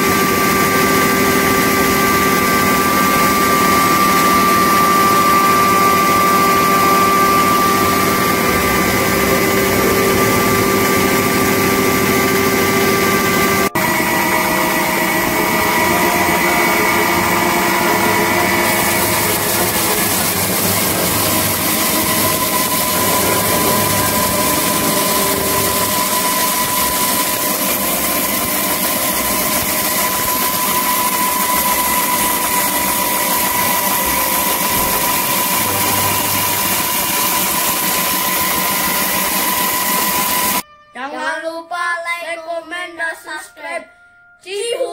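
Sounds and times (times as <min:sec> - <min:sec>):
grain mill grinding: 0:00.0 - 0:40.6
steady whine: 0:00.0 - 0:40.6.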